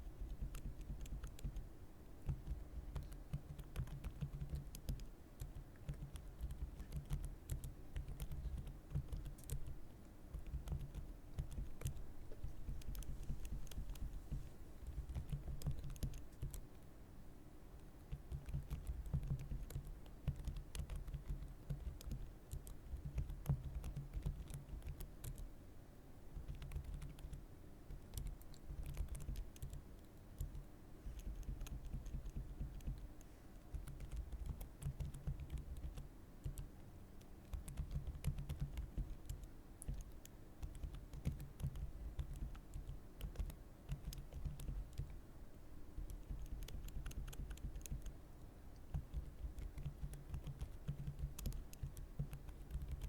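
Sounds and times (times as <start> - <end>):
typing on computer keyboard: 0.1 - 14.2, 14.8 - 16.7, 17.8 - 25.5, 26.4 - 45.2, 46.0 - 48.2, 48.8 - 53.0.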